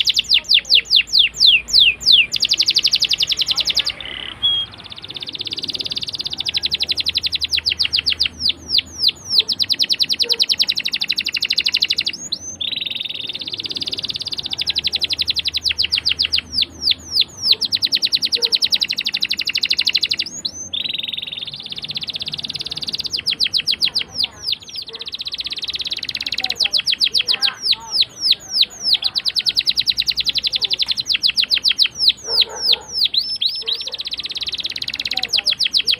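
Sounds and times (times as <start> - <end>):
canary singing trills: 0.0 - 35.9.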